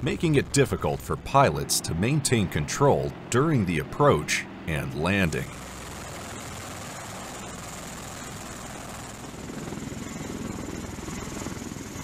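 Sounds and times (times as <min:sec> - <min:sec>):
aircraft rotor and engine noise: 0:00.0 - 0:12.0.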